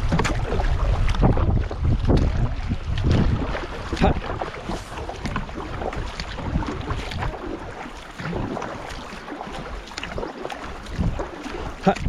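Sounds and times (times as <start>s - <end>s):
canoe paddles pulling through water: 0.0s - 12.0s
water splashing along hull: 0.0s - 12.0s.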